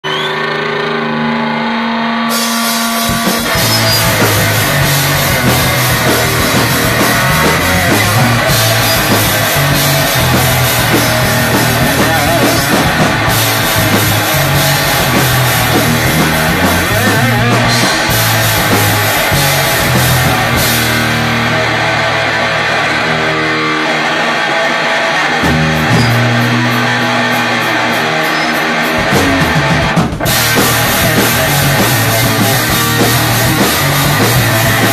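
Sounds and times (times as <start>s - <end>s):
fast rock band playing: 0.0s - 34.9s.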